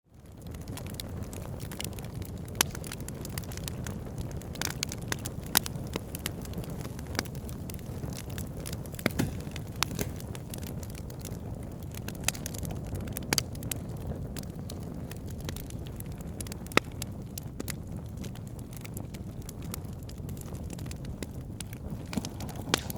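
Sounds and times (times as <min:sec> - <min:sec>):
low rumble of flames: 0:00.0 - 0:22.9
campfire crackles and pops: 0:00.1 - 0:22.9.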